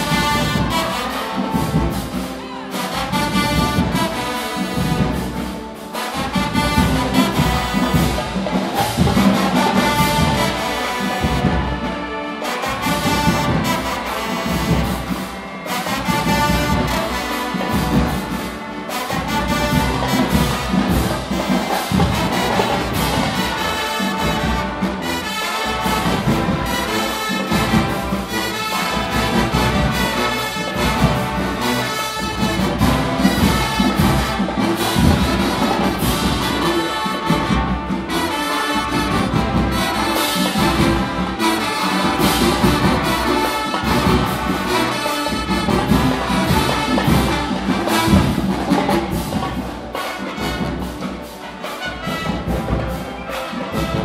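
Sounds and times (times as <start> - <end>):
brass section playing a tune: 0.0 - 54.0
percussion steady beat: 0.0 - 54.0.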